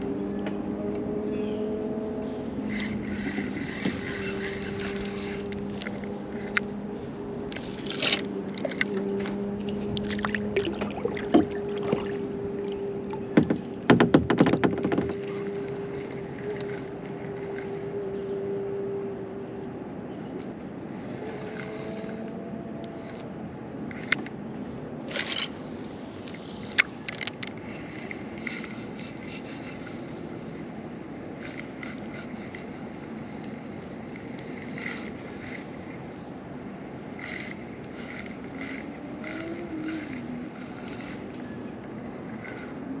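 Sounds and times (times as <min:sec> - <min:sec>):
boat motor droning: 0:00.0 - 0:43.0.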